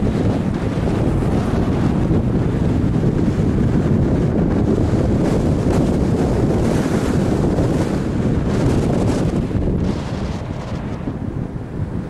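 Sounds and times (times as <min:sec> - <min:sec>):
road noise: 0:00.0 - 0:12.0
wind noise on microphone: 0:00.0 - 0:12.0.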